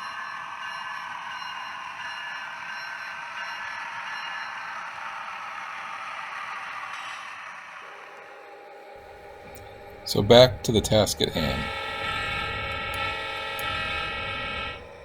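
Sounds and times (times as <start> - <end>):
model train rolling on track: 0.0 - 8.2, 9.0 - 15.0.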